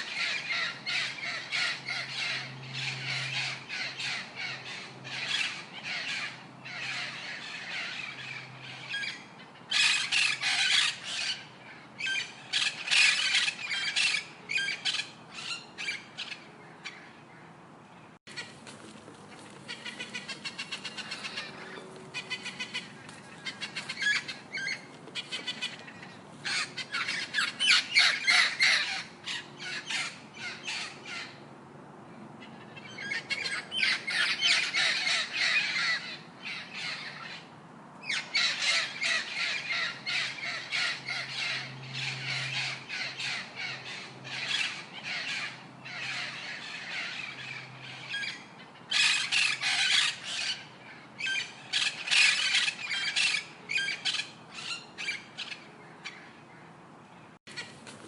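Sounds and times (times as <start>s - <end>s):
birds making harsh calls: 0.0s - 17.5s, 18.3s - 31.5s, 32.2s - 58.0s.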